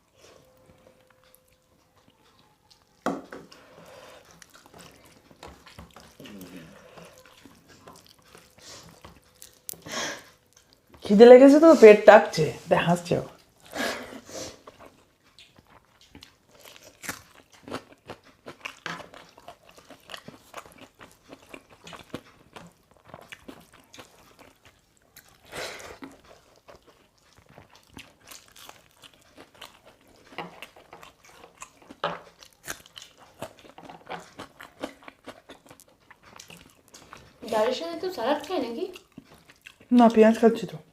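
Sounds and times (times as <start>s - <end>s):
people chewing and crunching food: 0.0s - 40.9s.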